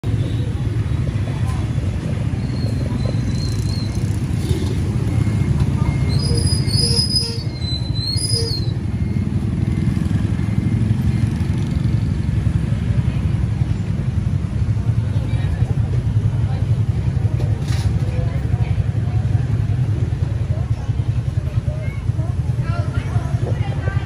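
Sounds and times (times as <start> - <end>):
motorbike traffic rumble: 0.0 - 24.0.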